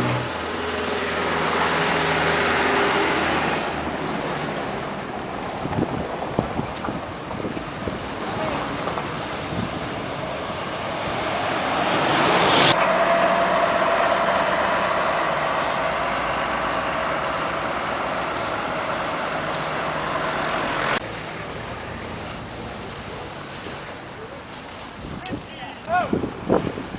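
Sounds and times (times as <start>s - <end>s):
road traffic noise: 0.0s - 26.9s.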